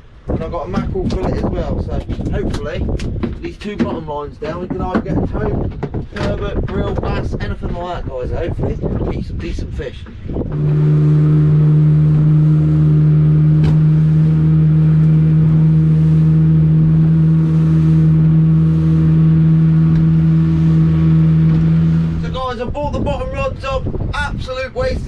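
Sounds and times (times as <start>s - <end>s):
boat engine running: 0.0s - 24.1s.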